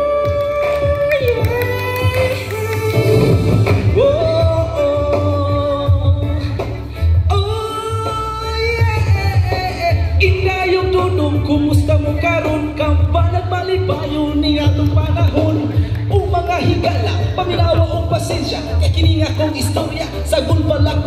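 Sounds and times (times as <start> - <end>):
man singing into microphone: 0.0 - 21.0
pop backing track: 0.0 - 21.0.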